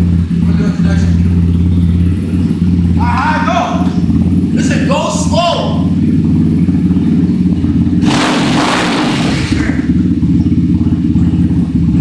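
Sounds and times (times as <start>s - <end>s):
dirt bike engine rumbling: 0.0s - 12.0s.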